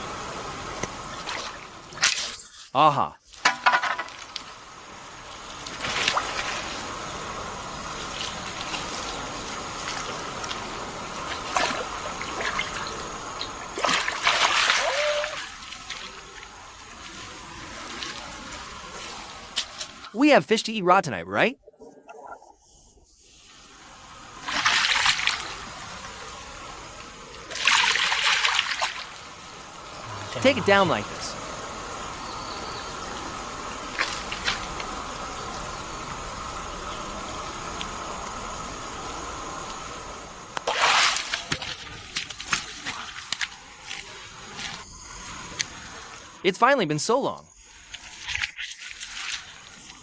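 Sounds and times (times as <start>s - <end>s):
water trickling and splashing: 0.0s - 2.6s, 3.2s - 20.1s, 23.2s - 46.4s, 47.6s - 50.0s.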